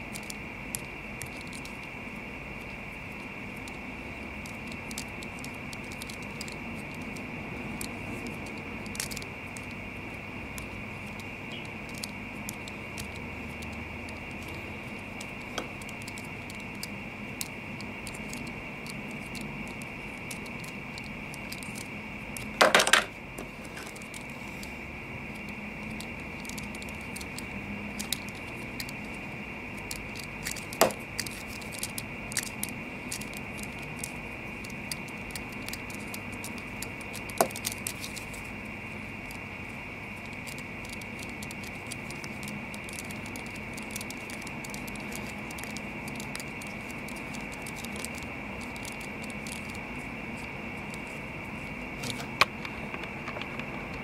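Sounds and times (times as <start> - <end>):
steady high hiss: 0.0 - 54.0.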